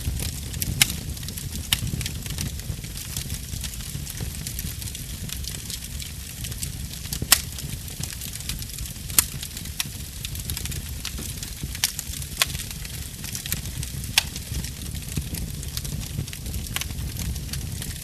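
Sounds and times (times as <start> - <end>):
sharp pops of burning wood: 0.0 - 18.0
wood fire rumbling and crackling: 0.0 - 18.0.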